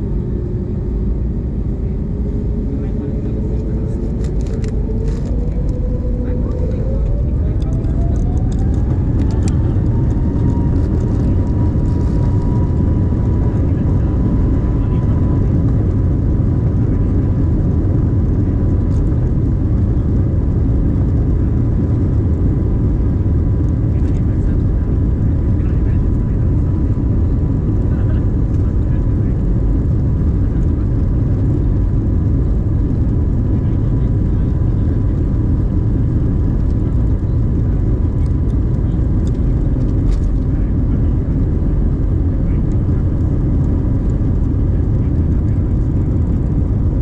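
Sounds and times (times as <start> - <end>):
aircraft cabin low rumble: 0.0 - 47.0.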